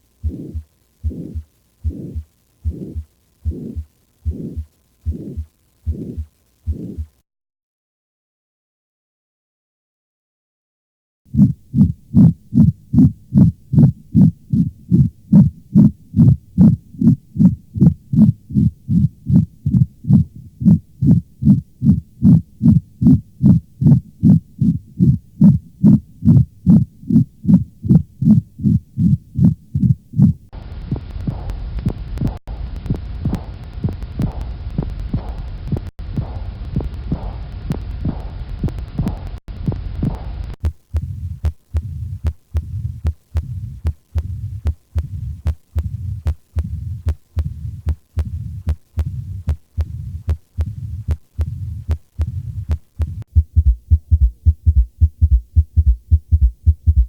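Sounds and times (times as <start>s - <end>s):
background hiss: 0.0s - 7.2s, 11.3s - 57.0s
heartbeat through stethoscope: 0.2s - 7.2s, 11.3s - 57.0s.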